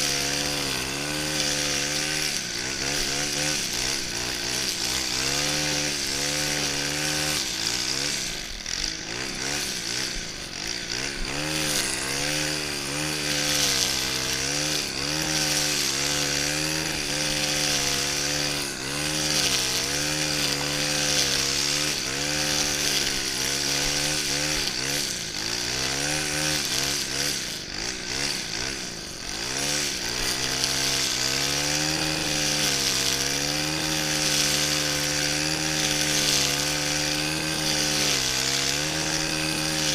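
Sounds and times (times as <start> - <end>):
brushcutter engine running: 0.0 - 39.9
high hiss of cutting grass: 0.0 - 39.9.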